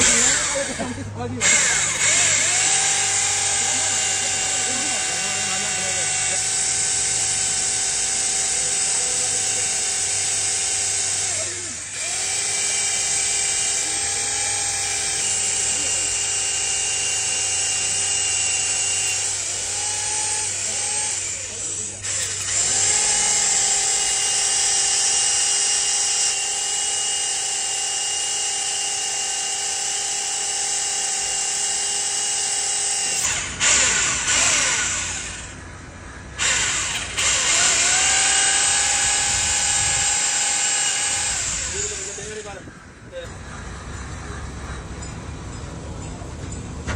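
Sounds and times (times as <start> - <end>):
electric drill whining into metal: 0.0 - 35.6, 36.4 - 42.7
rough grinding: 0.0 - 35.7, 36.4 - 42.8.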